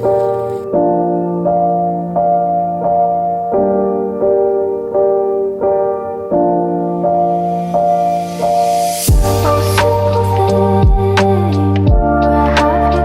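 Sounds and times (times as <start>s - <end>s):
gentle piano chords: 0.0s - 13.0s.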